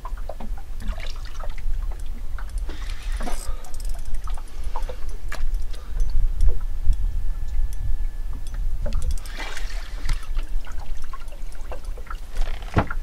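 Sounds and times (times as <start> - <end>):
water splashing at a boat: 0.0 - 6.7, 8.4 - 13.0
steady low rumble: 0.0 - 12.4.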